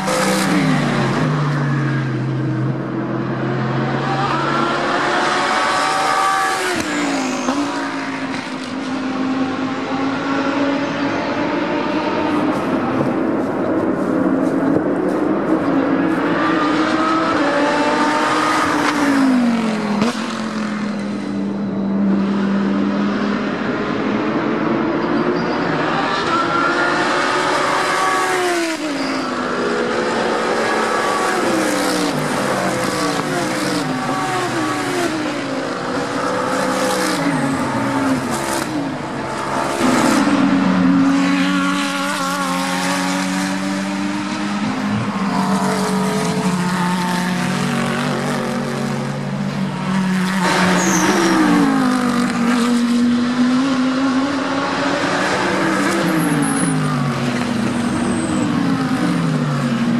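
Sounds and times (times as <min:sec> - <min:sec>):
race cars passing at speed: 0:00.0 - 0:59.9.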